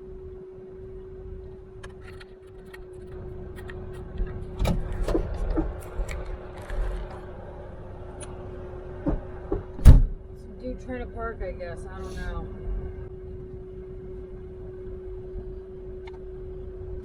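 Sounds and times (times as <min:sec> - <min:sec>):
truck cab hum: 0:00.0 - 0:17.0.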